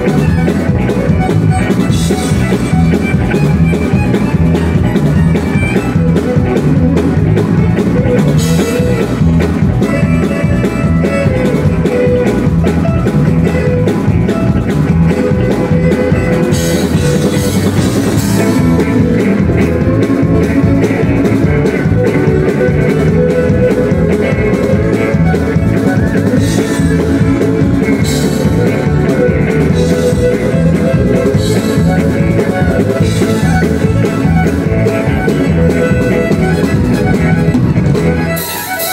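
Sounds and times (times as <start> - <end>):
country band playing: 0.0 - 38.9
fiddle lead: 0.0 - 38.9.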